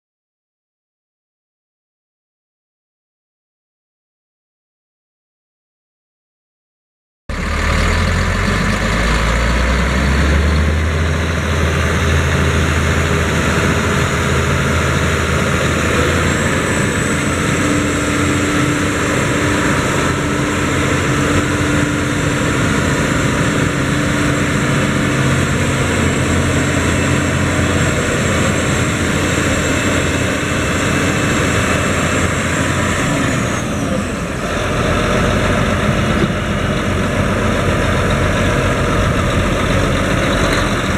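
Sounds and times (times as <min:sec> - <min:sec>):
diesel engine rumbling: 0:07.3 - 0:40.9
high engine whine: 0:07.3 - 0:40.9.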